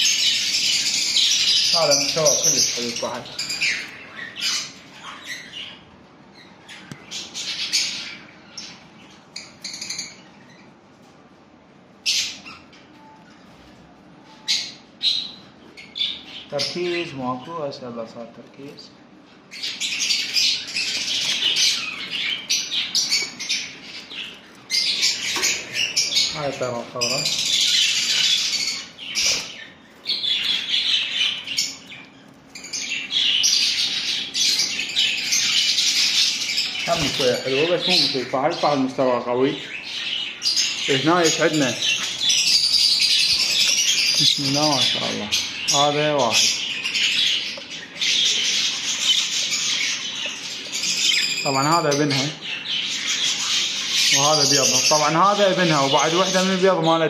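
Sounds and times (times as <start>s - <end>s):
budgerigars chirping and squawking: 0.0s - 11.2s, 11.9s - 57.0s.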